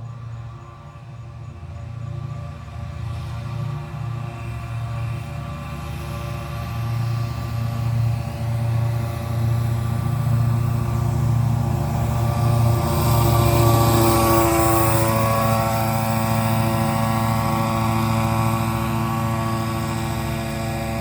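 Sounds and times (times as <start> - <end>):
truck machinery droning hum: 0.0 - 21.0.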